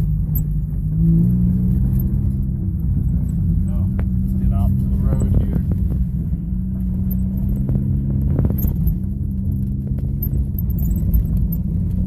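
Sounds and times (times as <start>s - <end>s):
deep exhaust drone: 0.0s - 12.0s
light clicks and rattles: 1.7s - 12.0s.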